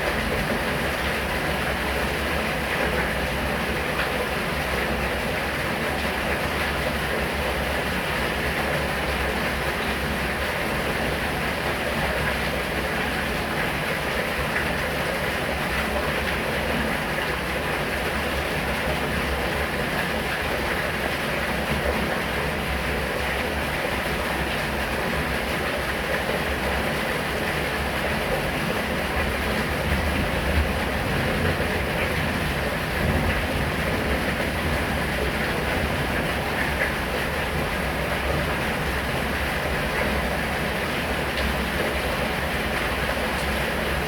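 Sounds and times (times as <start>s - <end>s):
rain falling steadily: 0.0s - 44.0s.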